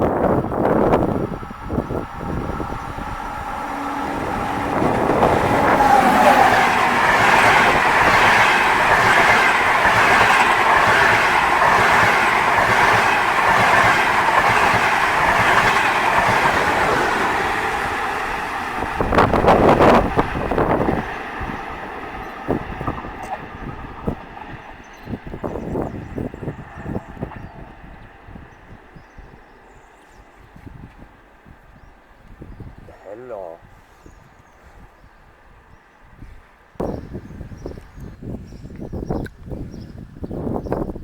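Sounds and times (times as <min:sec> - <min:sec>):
train passing on track: 0:00.0 - 0:41.0.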